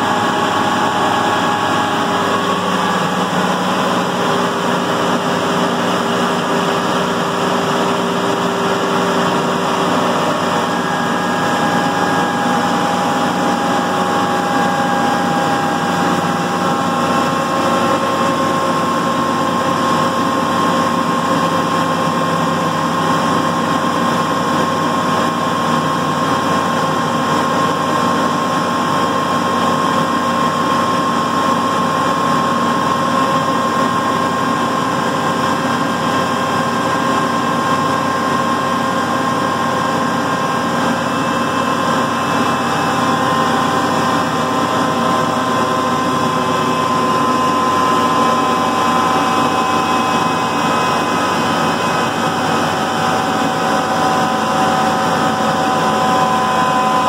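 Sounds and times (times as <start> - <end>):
loud machine drone: 0.0 - 57.0
steady whine: 0.0 - 57.0.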